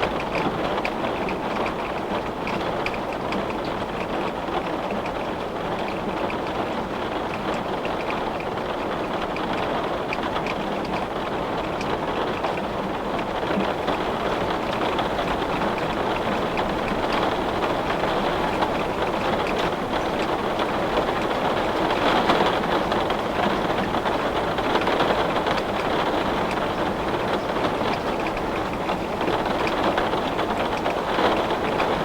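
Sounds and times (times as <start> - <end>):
heavy rain on a window: 0.0 - 32.0
sharp raindrop ticks: 0.0 - 32.0.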